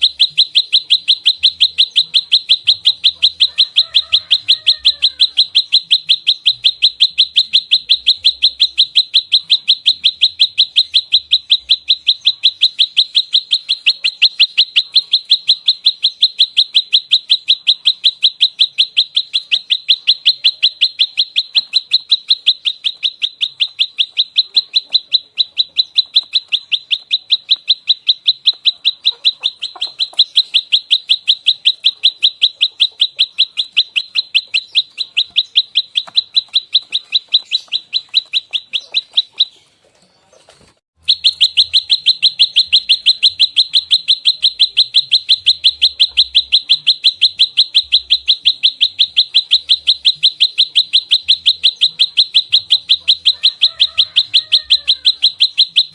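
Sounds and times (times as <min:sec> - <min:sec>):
prinia rapid chirping call: 0:00.0 - 0:55.9.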